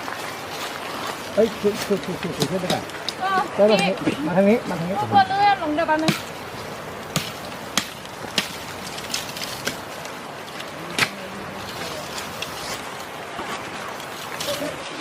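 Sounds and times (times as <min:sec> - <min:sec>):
background hiss: 0:00.0 - 0:15.0
footsteps on forest trail: 0:00.0 - 0:15.0.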